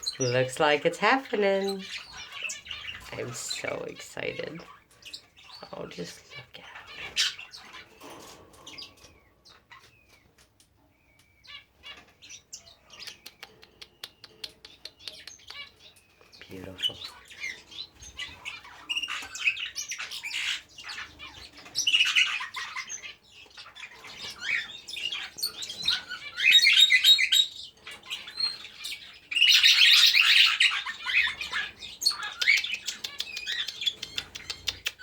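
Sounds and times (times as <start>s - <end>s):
budgerigars chattering and squawking: 0.0s - 35.0s.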